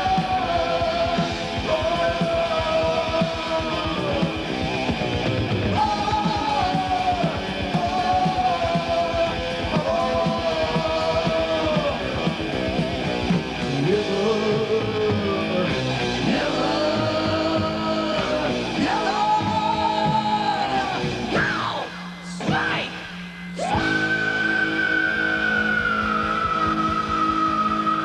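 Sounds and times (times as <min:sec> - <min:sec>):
person singing: 0:00.0 - 0:04.4, 0:05.8 - 0:13.1, 0:13.8 - 0:28.0
heavy metal band playing: 0:00.0 - 0:28.0.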